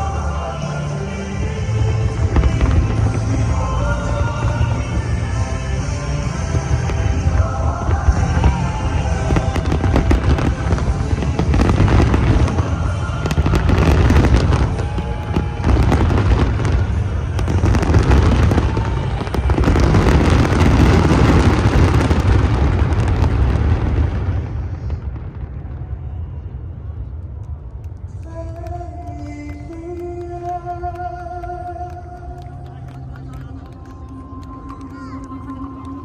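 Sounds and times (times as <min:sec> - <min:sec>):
music playing: 0:00.0 - 0:24.5, 0:27.9 - 0:36.0
fireworks bangs and crackles: 0:00.0 - 0:36.0
low rumble: 0:00.0 - 0:36.0.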